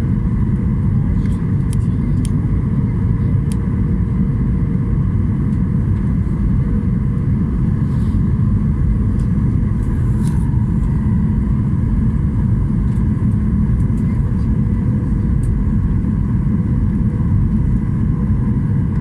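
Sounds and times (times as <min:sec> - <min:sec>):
airliner cabin rumble: 0:00.0 - 0:19.0
faint hum tones: 0:00.0 - 0:19.0.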